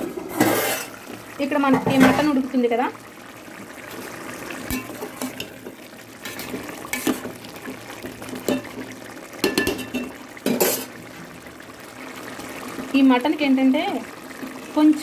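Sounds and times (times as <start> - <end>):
gravy bubbling in metal pot: 0.0 - 15.0.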